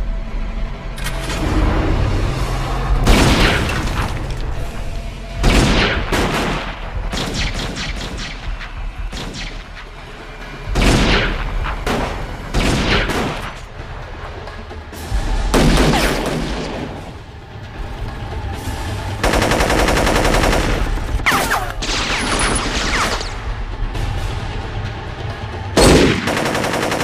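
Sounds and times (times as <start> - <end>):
low droning music: 0.0 - 27.0.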